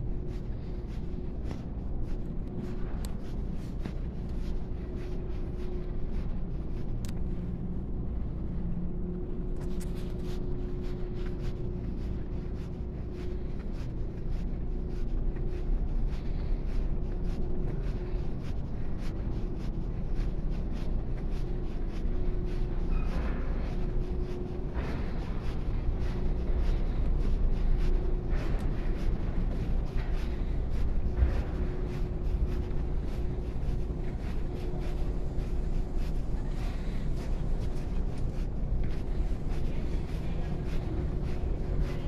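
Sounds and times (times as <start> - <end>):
footsteps clicking: 0.0 - 42.0
steady low hum: 0.0 - 42.0.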